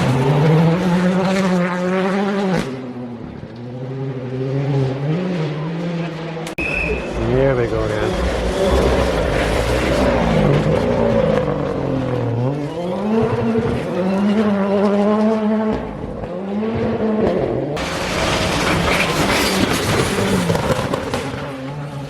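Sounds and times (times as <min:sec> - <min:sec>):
rally car engine braking and accelerating: 0:00.0 - 0:22.0.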